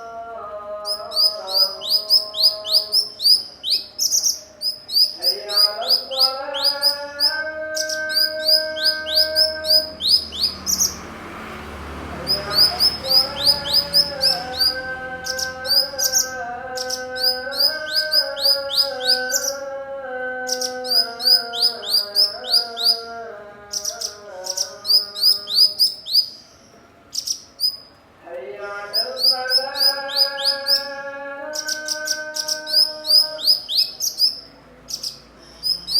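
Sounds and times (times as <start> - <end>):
bird chirping: 0.0 - 35.9.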